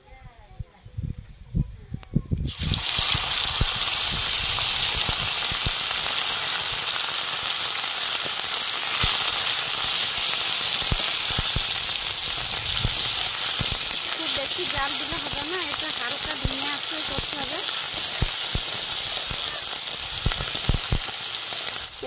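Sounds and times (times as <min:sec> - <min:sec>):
paste sizzling in hot oil: 0:02.5 - 0:22.0.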